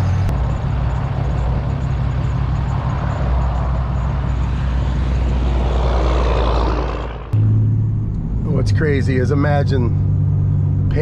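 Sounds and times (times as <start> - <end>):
constant low hum: 0.0 - 11.0
wind and road noise: 0.0 - 11.0.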